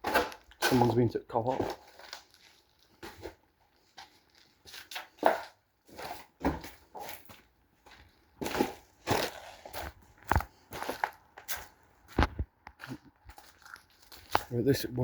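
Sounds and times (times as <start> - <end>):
footsteps crunching on debris: 0.0 - 15.0.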